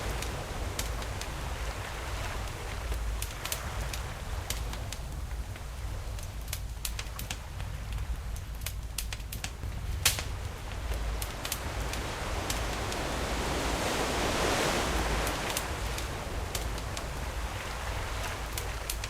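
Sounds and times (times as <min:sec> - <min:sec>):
wave washing up shore: 0:00.0 - 0:06.4, 0:09.6 - 0:19.0
low rumble of sea: 0:00.0 - 0:19.0
campfire crackling and popping: 0:00.1 - 0:13.2, 0:15.1 - 0:19.0.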